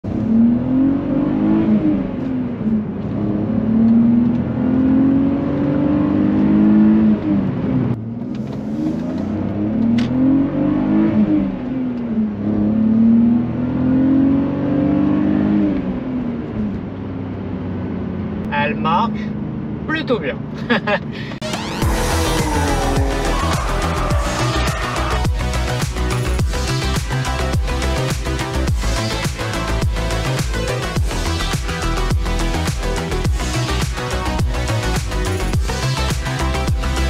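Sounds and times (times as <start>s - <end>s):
car engine accelerating through gears: 0.0s - 18.5s, 19.3s - 37.0s.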